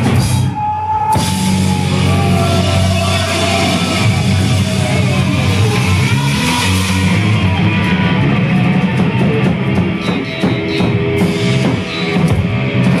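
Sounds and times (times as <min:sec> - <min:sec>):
live metal band playing: 0:00.0 - 0:13.0
pounding drum kit: 0:00.0 - 0:13.0
distorted electric guitar: 0:01.2 - 0:13.0.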